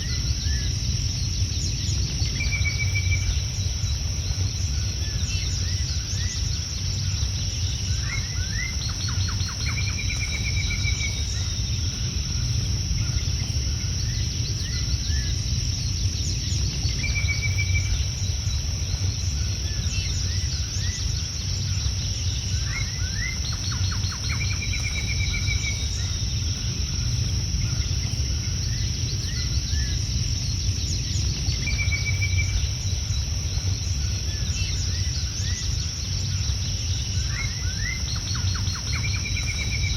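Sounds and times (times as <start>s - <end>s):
birds chirping: 0.0s - 39.9s
high insect chorus: 0.0s - 39.9s
low rumble: 0.0s - 39.9s.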